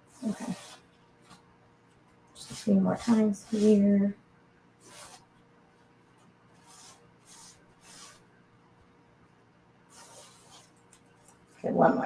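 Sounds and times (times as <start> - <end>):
soft rustling of stencil on fabric: 0.0 - 4.2, 4.8 - 8.3, 9.9 - 12.0.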